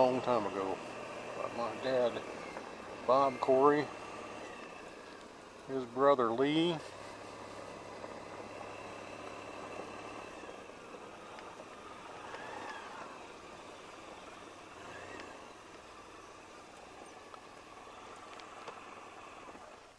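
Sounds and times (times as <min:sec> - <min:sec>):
engine idling hum: 0:00.0 - 0:19.9.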